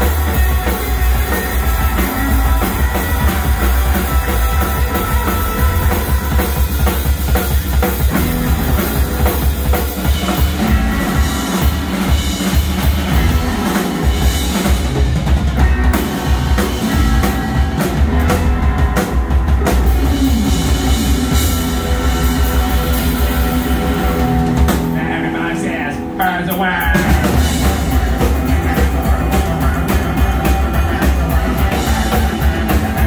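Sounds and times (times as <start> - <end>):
double bass line: 0.0 - 25.4, 26.9 - 33.0
drum kit beat: 0.0 - 33.0
electric guitar: 0.0 - 33.0.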